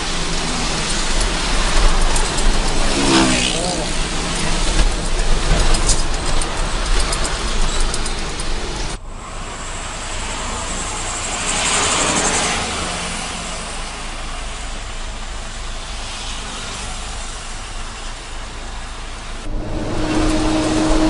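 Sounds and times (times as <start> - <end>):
traffic engines and tyres: 0.0 - 21.0.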